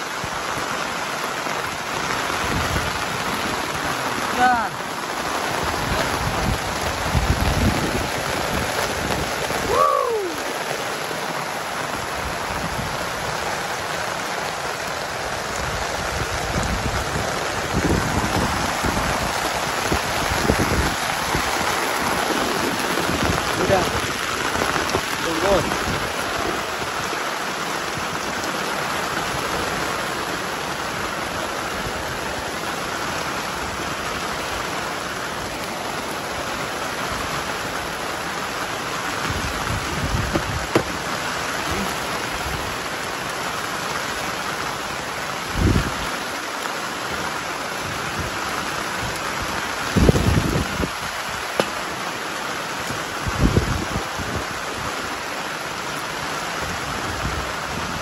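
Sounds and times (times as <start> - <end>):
rain falling on plants: 0.0 - 58.0.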